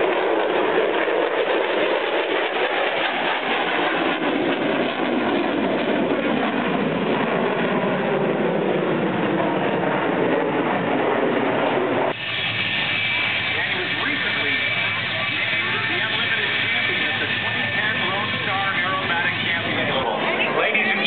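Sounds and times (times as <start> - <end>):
fighter jet flying past: 0.0 - 21.0.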